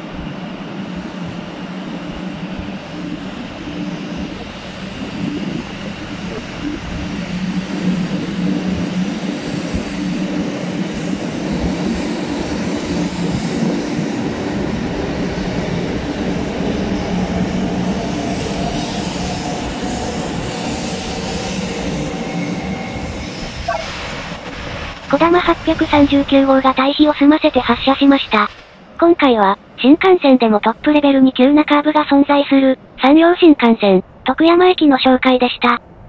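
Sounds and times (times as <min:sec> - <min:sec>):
train rumbling with hum: 0:00.0 - 0:36.0.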